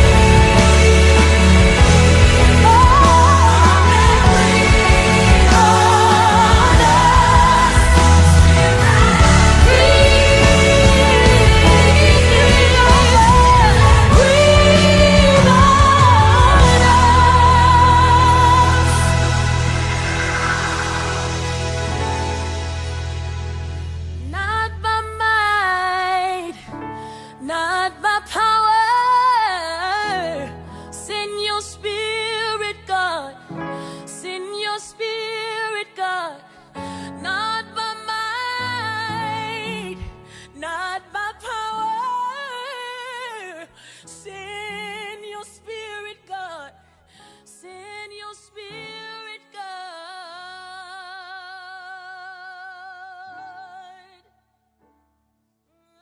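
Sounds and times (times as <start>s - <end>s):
music: 0.0s - 56.0s.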